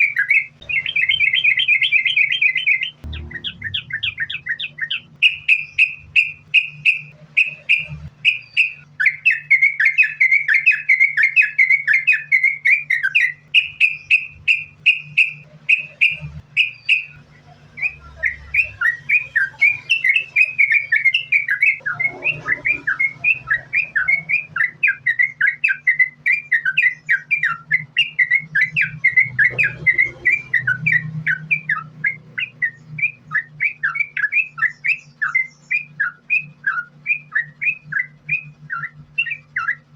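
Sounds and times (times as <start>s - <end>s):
bird singing bubbling notes: 0.0s - 39.9s
steady low hum: 0.0s - 39.9s.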